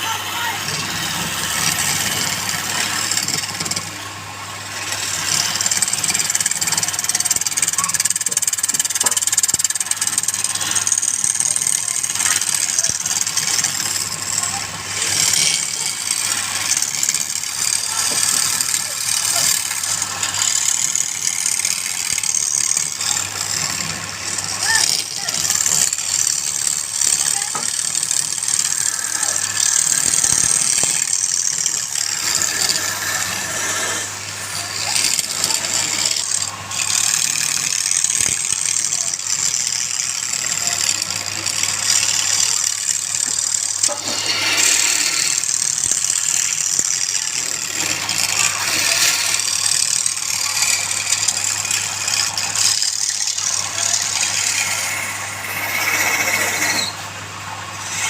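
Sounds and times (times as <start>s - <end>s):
power tool rasping wood: 0.0s - 58.0s.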